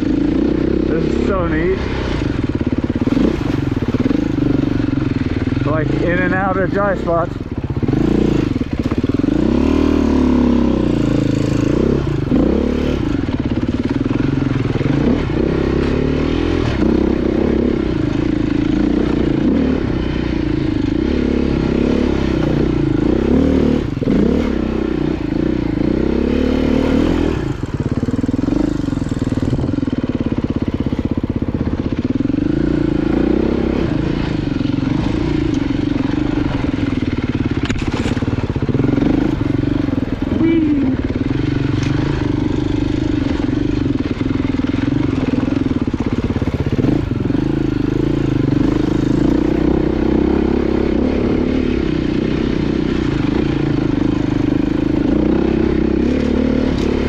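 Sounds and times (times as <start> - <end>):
off-road motorcycle engine revving: 0.0 - 57.0.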